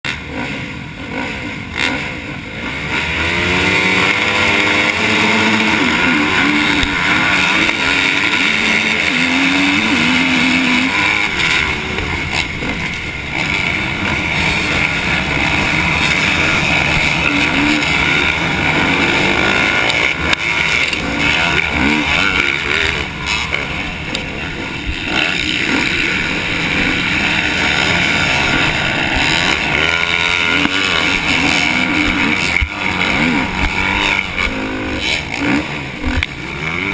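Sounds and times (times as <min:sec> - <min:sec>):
dirt bike engine revving: 0:00.1 - 0:36.9
pack of dirt bike engines: 0:00.1 - 0:36.9.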